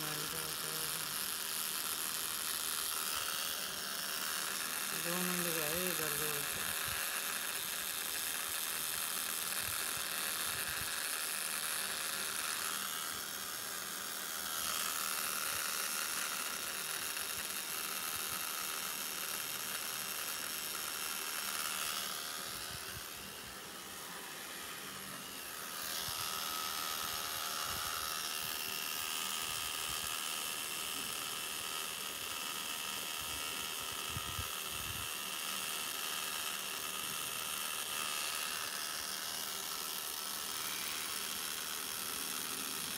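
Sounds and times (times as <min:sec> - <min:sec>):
tattoo machine buzzing: 0:00.0 - 0:42.9.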